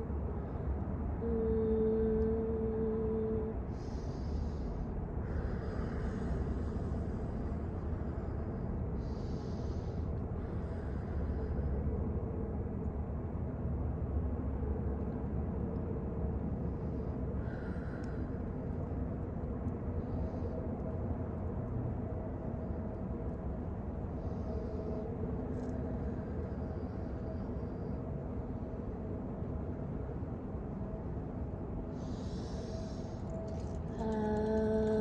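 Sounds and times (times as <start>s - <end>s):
low background rumble: 0.0s - 35.0s.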